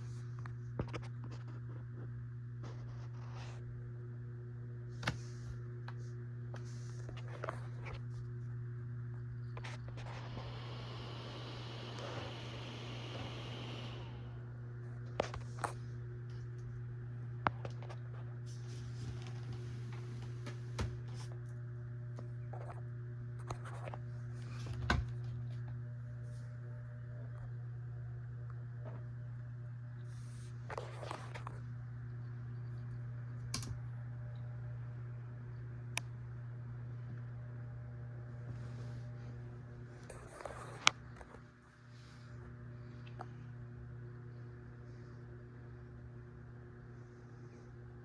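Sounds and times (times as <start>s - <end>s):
laptop cooling fan humming: 0.0s - 48.0s.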